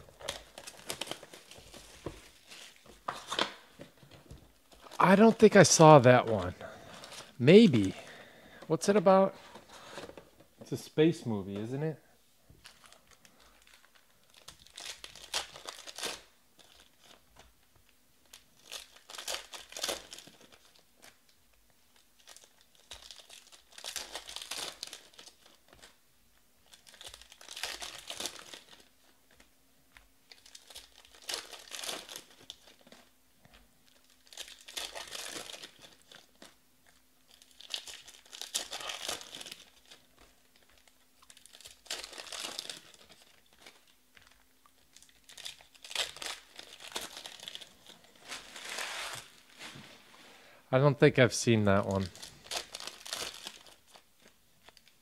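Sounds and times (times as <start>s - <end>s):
foil wrappers tearing and crinkling: 0.0s - 8.3s, 12.6s - 17.4s, 18.2s - 21.3s, 21.9s - 26.0s, 26.6s - 29.5s, 30.2s - 33.1s, 33.9s - 49.8s, 51.9s - 55.0s.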